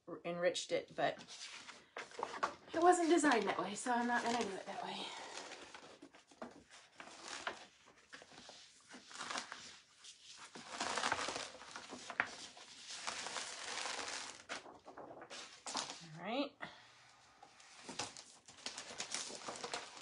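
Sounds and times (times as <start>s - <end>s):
paper rustling and crinkling: 1.2s - 16.0s, 17.4s - 20.0s.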